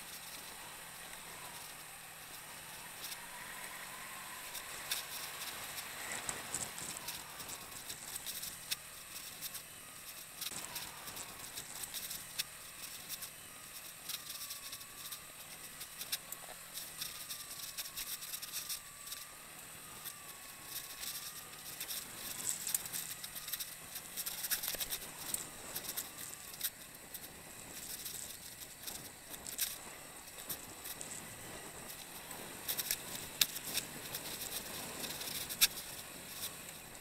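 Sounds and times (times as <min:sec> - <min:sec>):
faint motorcycle engine: 0:00.0 - 0:37.0.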